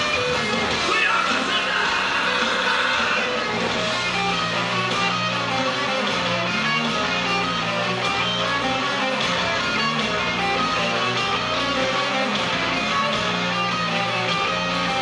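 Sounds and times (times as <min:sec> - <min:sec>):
distorted electric guitar band: 0:00.0 - 0:15.0.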